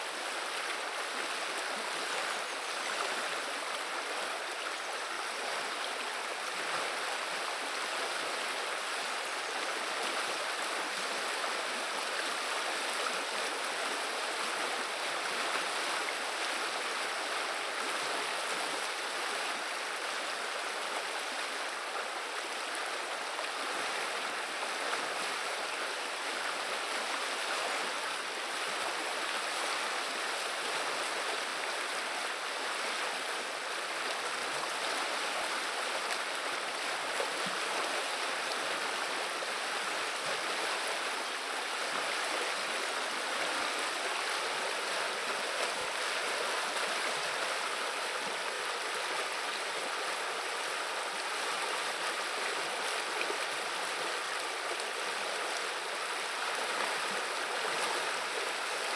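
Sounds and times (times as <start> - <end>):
river water babbling: 0.0 - 58.9.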